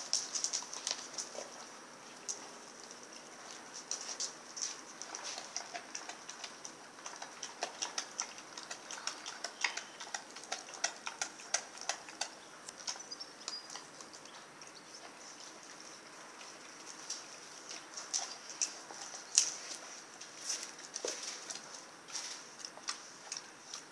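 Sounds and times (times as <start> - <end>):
dog gnawing frozen meat: 0.0 - 23.9.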